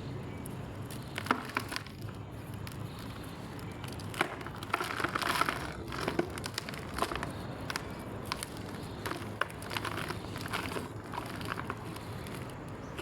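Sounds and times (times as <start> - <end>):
chalk crumbling and crackling: 0.0 - 13.0.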